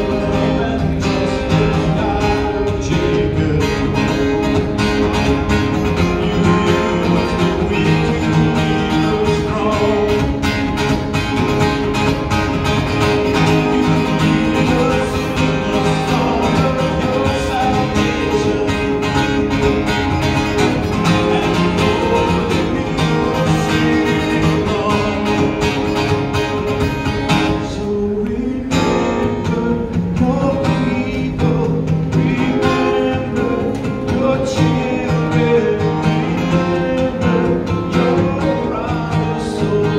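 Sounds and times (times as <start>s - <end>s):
man singing: 0.0s - 4.8s, 5.6s - 11.0s, 13.2s - 26.5s, 27.3s - 39.9s
amplified acoustic guitar strumming: 0.0s - 39.9s.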